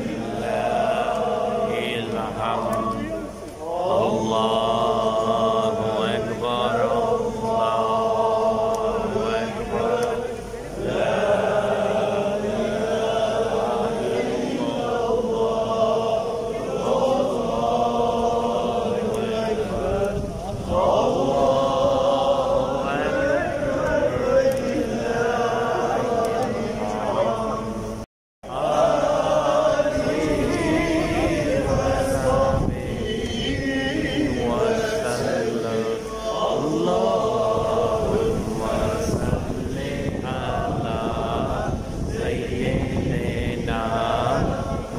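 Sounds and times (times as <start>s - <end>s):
prayer chanting: 0.0s - 44.9s.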